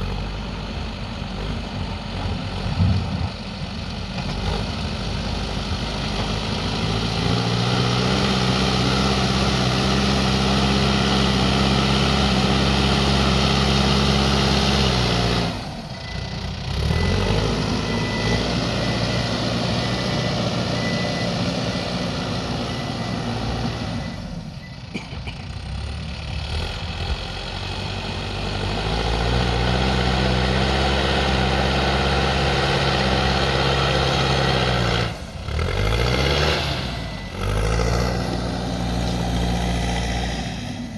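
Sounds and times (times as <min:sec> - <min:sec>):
backhoe diesel engine revving: 0:00.0 - 0:40.9.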